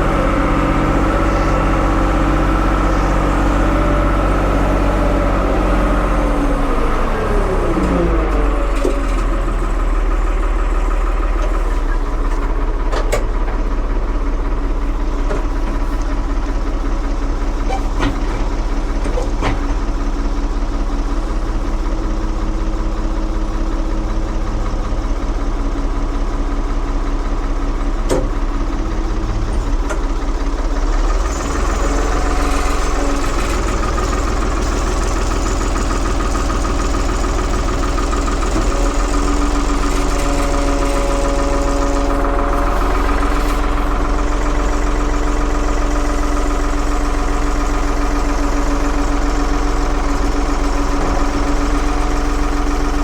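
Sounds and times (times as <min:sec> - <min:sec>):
backhoe engine running: 0:00.0 - 0:53.0.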